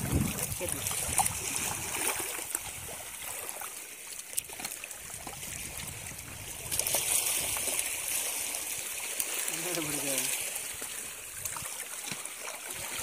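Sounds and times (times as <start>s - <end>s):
seawater sloshing over rocks: 0.0s - 13.0s
small water splashes: 0.0s - 13.0s.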